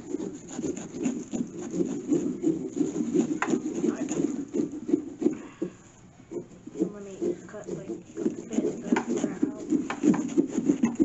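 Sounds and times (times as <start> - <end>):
knife sawing through pumpkin: 0.0 - 5.7, 6.3 - 11.0.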